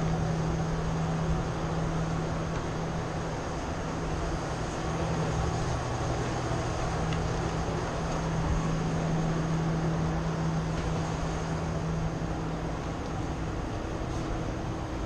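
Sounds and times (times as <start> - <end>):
low mechanical hum: 0.0 - 15.0
ventilation rushing noise: 0.0 - 15.0.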